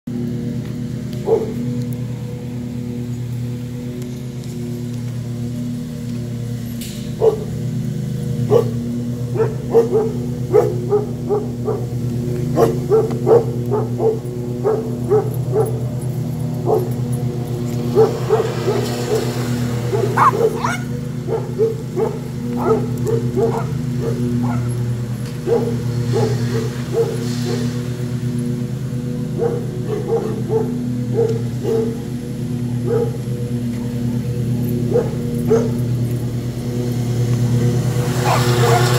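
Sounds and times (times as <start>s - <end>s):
lawnmower engine droning: 0.0s - 38.9s
dogs barking: 0.2s - 5.5s, 6.2s - 38.9s.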